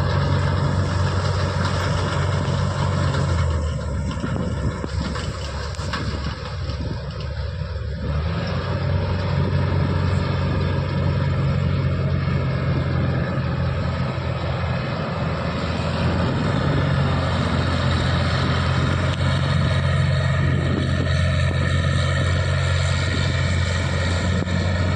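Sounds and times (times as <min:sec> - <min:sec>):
farm machine engine droning: 0:00.0 - 0:24.9.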